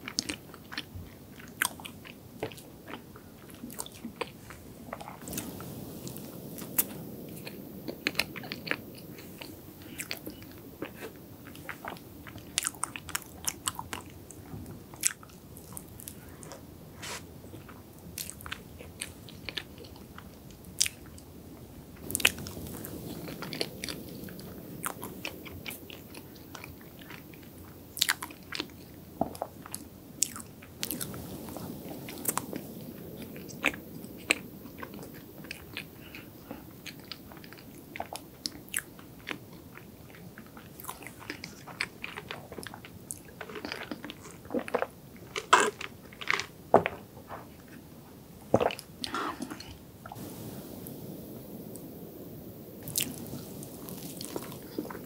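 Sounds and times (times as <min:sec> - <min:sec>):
close chewing with lip smacks: 0:00.0 - 0:21.2, 0:22.0 - 0:47.0, 0:48.5 - 0:50.4, 0:52.8 - 0:55.0.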